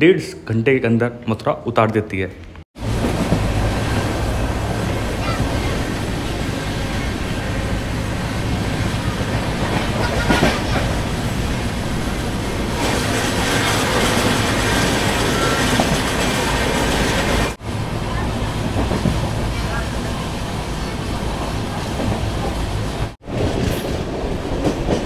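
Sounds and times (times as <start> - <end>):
passing train rushing: 2.8 - 25.0
rushing wind: 2.8 - 25.0
train wheels rumbling on rail: 2.8 - 25.0.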